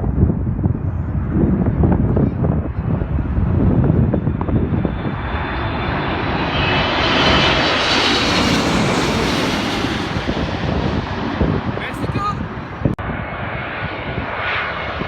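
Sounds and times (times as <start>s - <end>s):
wind rumble on microphone: 0.0s - 15.0s
airliner engines whining: 0.3s - 15.0s.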